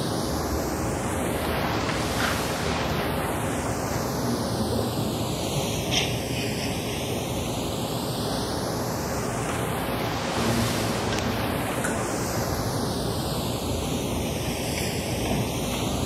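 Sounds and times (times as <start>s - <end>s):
loud rushing hiss: 0.0s - 16.0s.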